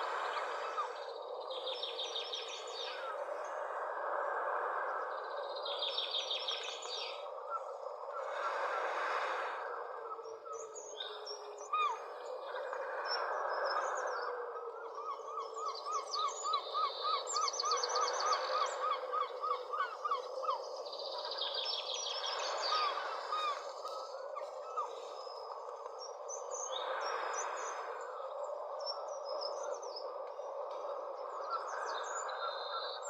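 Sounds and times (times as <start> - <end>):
birds calling and singing: 0.0 - 3.3, 5.2 - 8.4, 10.3 - 33.0.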